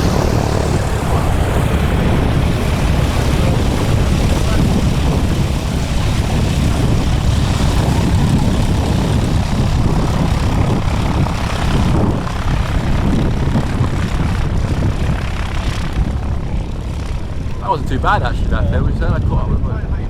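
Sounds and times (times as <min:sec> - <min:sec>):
propeller aeroplane engine drone: 0:00.0 - 0:20.0.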